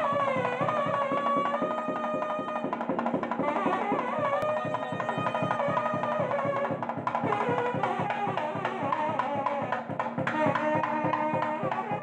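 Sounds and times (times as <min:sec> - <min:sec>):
fast steady drum beat: 0:00.0 - 0:12.0.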